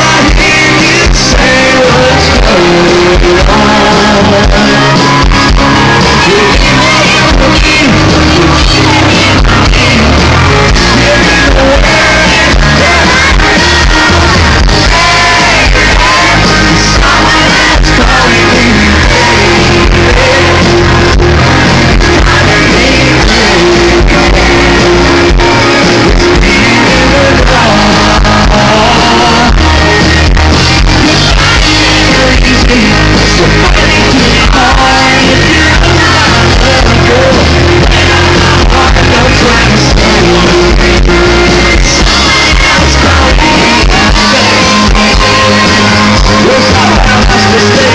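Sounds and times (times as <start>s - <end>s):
crowd shouting along: 0.0s - 47.9s
lead singer singing: 0.0s - 47.9s
live country rock band: 0.0s - 47.9s.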